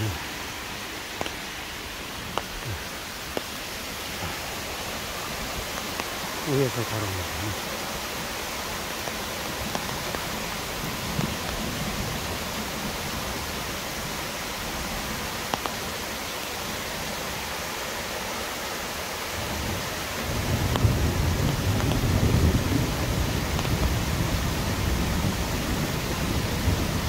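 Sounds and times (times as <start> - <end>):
rain falling: 0.0 - 27.0
waterfall rushing: 0.0 - 27.0.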